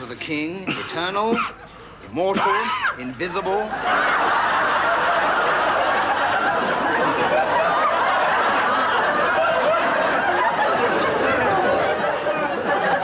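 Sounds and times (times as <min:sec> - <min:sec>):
crowd laughing loudly: 0:01.5 - 0:13.0.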